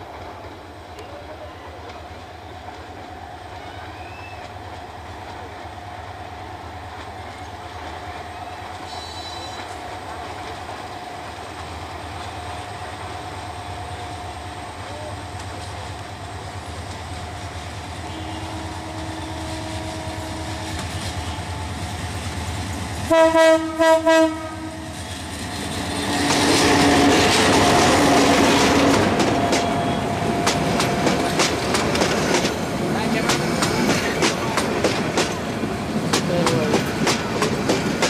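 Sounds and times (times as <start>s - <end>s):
approaching train rumble: 0.0s - 38.0s.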